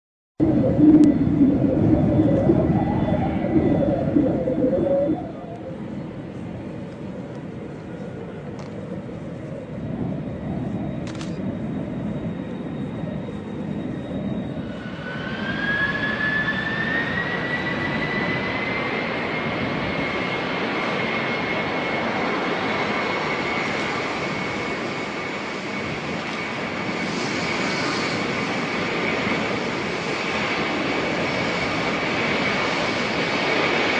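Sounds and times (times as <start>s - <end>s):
jet engines spooling up: 0.4s - 33.9s.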